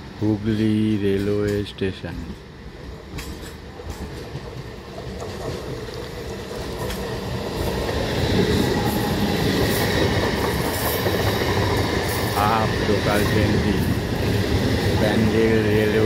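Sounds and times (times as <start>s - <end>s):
train rolling past: 0.0s - 16.0s.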